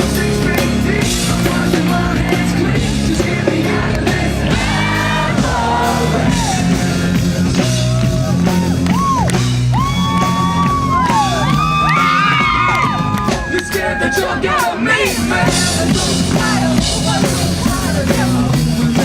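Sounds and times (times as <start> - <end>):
live rap-rock band: 0.0 - 19.0
sliding vocal notes and shouts: 0.2 - 19.0.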